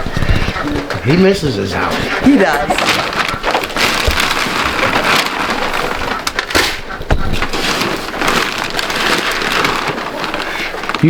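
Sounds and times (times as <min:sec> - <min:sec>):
sharp knocks and crackles: 0:00.0 - 0:11.0.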